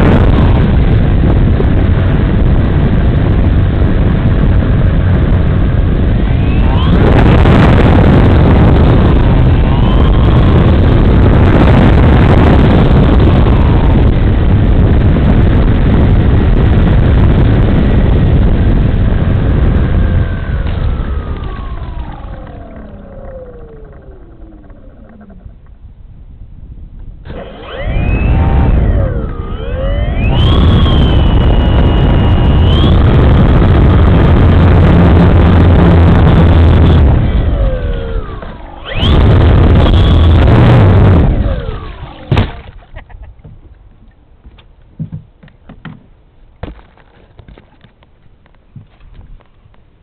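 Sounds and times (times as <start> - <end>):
model plane motor whining: 0.0 - 25.8, 27.2 - 42.8.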